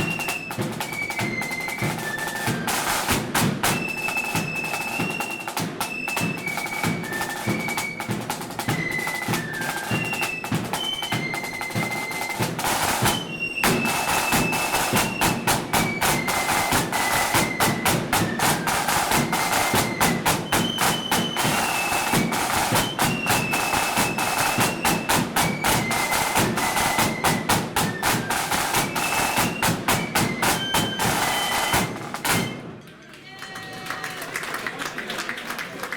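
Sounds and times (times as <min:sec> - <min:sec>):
flutes playing march melody: 0:00.0 - 0:32.8
rapid snare drumming: 0:00.0 - 0:32.8.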